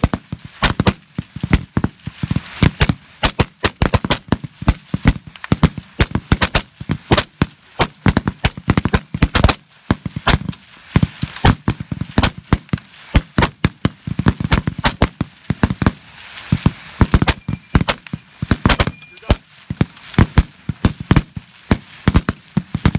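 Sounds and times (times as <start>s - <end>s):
rifles firing rapidly: 2.6s - 16.0s, 16.6s - 22.9s.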